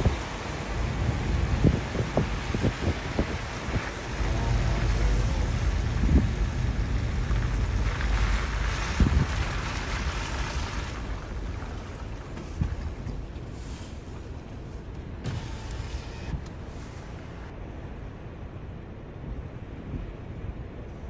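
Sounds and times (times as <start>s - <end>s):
wind noise: 0.0s - 17.6s
road rumble inside car: 0.0s - 21.0s.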